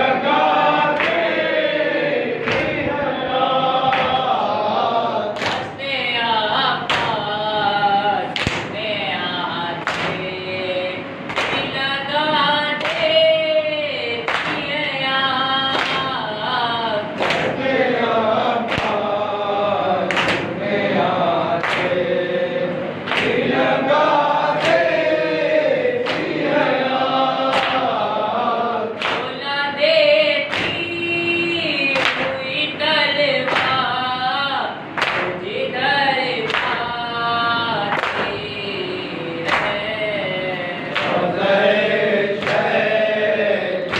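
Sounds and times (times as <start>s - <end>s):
men singing in chorus: 0.0s - 8.4s, 15.0s - 43.9s.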